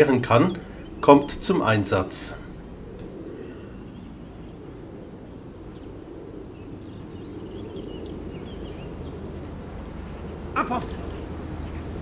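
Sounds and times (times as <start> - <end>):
bird chirping: 0.0 - 12.0
steady low rumble: 0.0 - 12.0.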